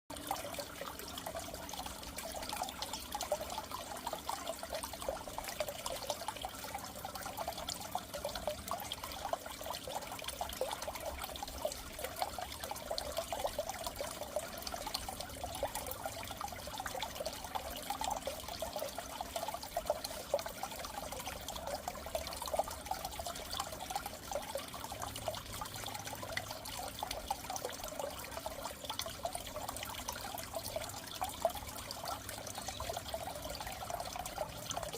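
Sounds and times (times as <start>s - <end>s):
aquarium water trickling and bubbling: 0.0s - 34.9s.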